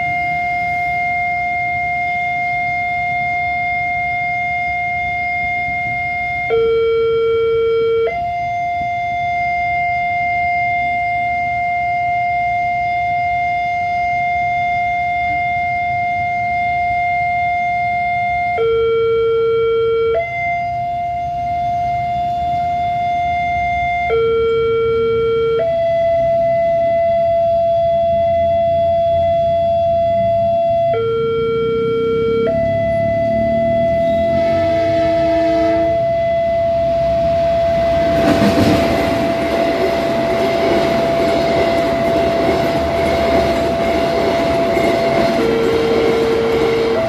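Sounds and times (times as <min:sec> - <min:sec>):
level-crossing warning siren: 0:00.0 - 0:47.0.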